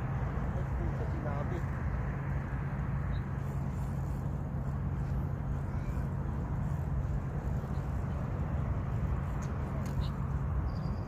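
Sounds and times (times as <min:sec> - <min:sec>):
constant low hum: 0:00.0 - 0:11.0
road traffic rumble: 0:00.0 - 0:11.0.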